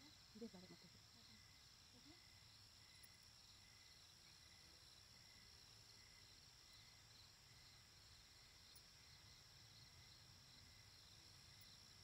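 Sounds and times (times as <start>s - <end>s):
faint high-pitched background noise: 0.0s - 12.0s.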